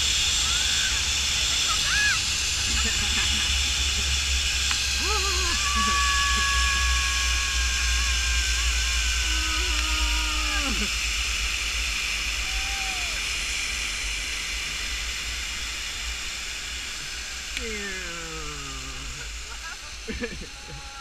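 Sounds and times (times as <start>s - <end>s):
zip-line pulley whining on cable: 0.0s - 21.0s.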